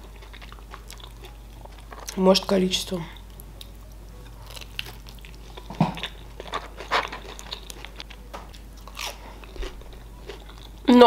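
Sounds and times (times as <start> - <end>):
crunchy wet chewing: 0.0 - 2.2, 3.2 - 10.9.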